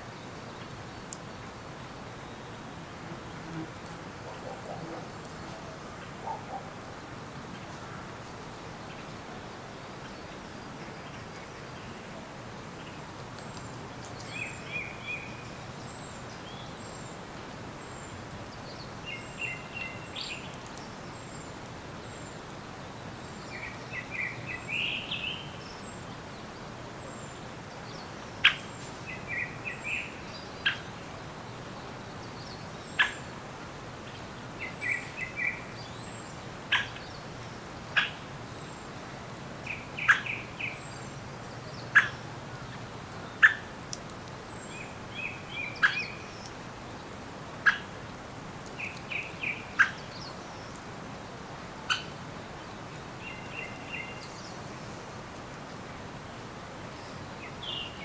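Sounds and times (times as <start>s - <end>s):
background hiss: 0.0s - 58.0s
forest birds singing: 0.0s - 58.0s.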